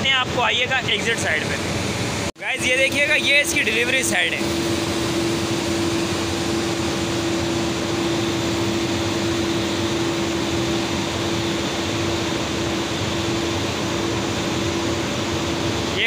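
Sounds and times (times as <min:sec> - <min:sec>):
constant hum: 0:00.0 - 0:16.0.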